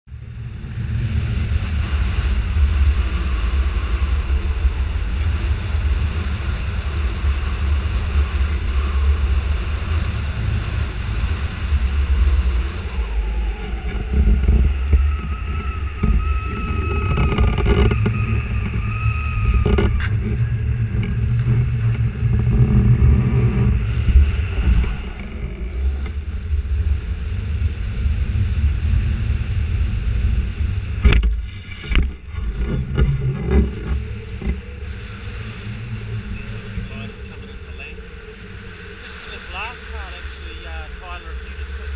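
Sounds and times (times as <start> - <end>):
wind rumbling on microphone: 0.0 - 41.9.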